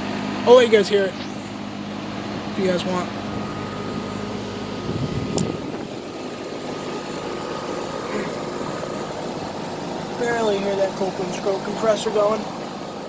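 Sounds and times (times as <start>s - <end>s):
air conditioner fan whoosh: 0.0s - 13.0s
steady hum: 0.0s - 13.0s.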